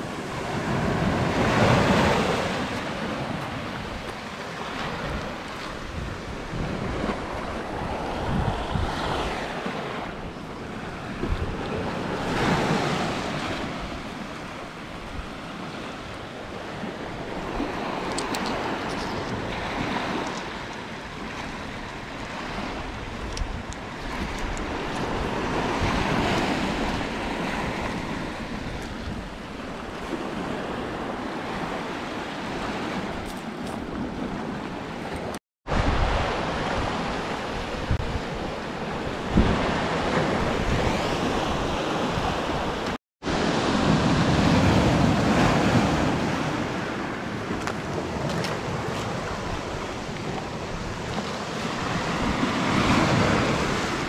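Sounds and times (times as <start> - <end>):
sea waves washing onto beach: 0.0 - 54.0
wind rumbling on microphone: 0.0 - 54.0.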